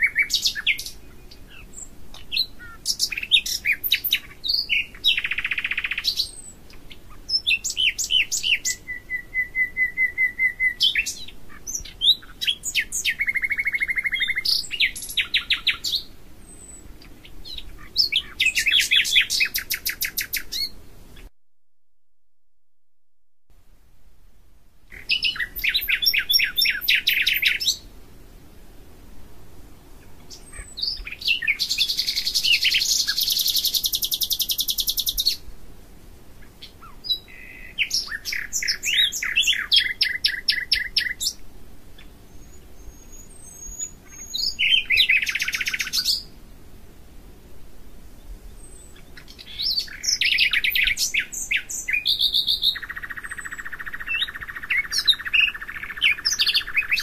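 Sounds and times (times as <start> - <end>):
songbird singing trills: 0.0 - 21.3, 24.9 - 27.9, 30.0 - 35.5, 36.4 - 46.6, 48.2 - 57.0.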